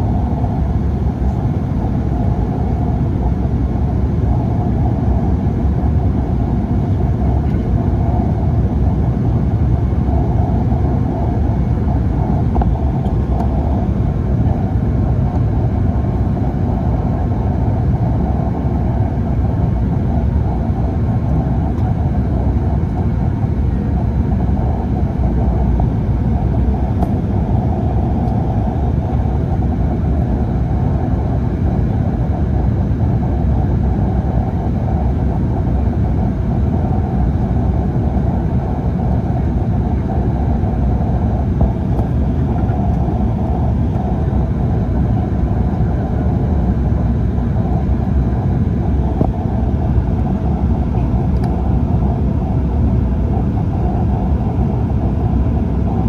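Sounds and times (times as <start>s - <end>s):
airliner cabin engine rush: 0.0s - 56.0s.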